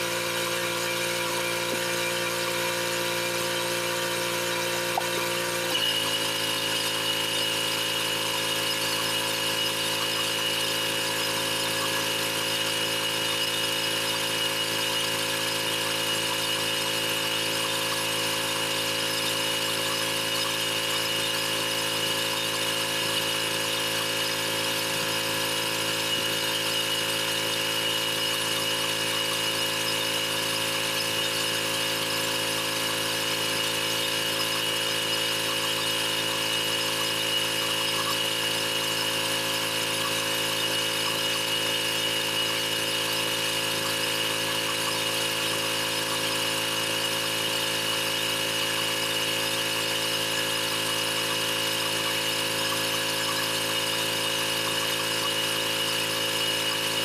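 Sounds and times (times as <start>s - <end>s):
pressure washer running: 0.0s - 57.0s.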